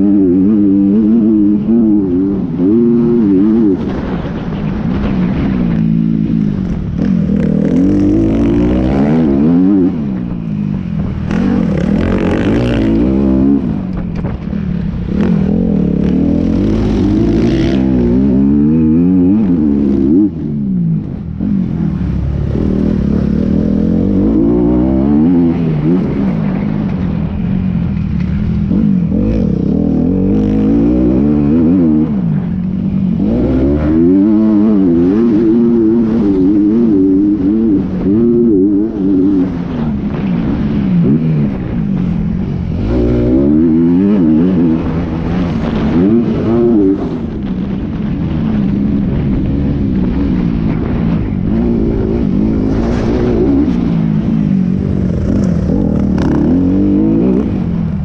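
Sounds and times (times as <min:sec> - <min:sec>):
low road rumble: 0:00.0 - 0:58.0
motorcycle engine accelerating: 0:00.0 - 0:58.0.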